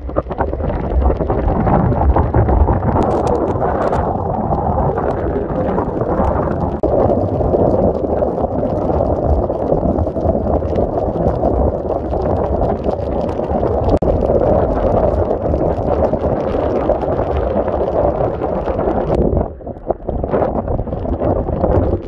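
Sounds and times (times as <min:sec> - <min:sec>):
heavy rain on a car: 0:00.0 - 0:22.0
wind: 0:00.0 - 0:22.0.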